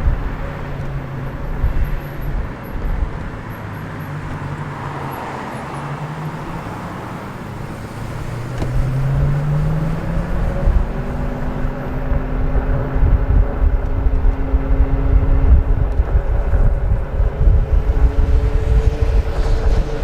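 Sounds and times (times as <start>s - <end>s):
electric scooter motor hum: 0.0s - 20.0s
road and wind noise: 0.0s - 20.0s.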